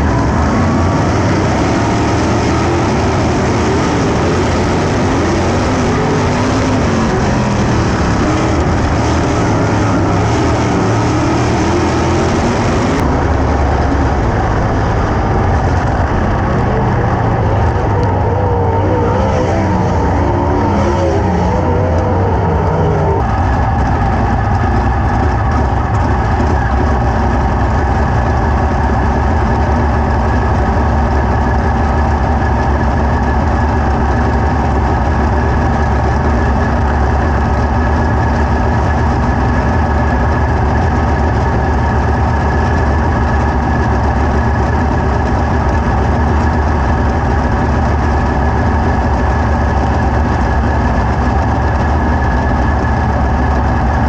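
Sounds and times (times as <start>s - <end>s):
engine humming steadily: 0.0s - 54.0s.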